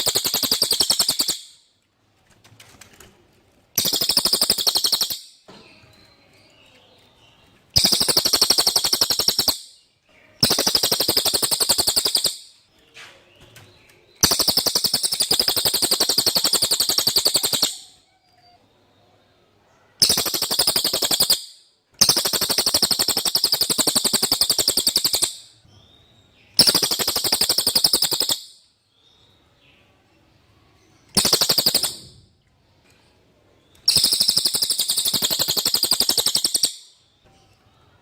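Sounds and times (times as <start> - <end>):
songbird high-pitched trills: 0.0 - 1.6, 3.8 - 12.7, 14.2 - 19.2, 20.0 - 32.3, 33.6 - 38.0.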